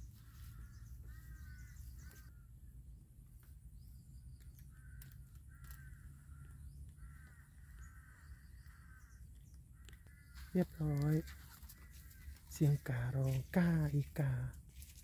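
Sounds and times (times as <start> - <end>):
crows cawing faintly: 0.0 - 15.0.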